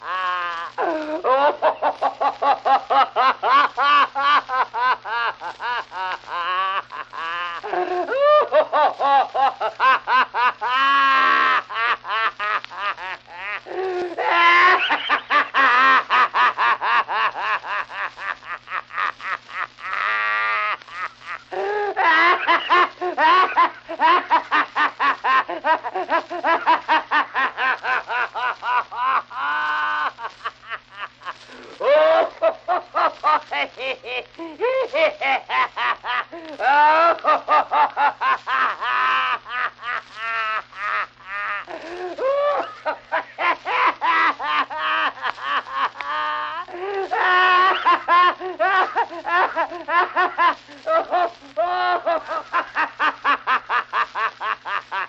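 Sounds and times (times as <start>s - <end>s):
old man laughing heartily: 0.0s - 55.0s.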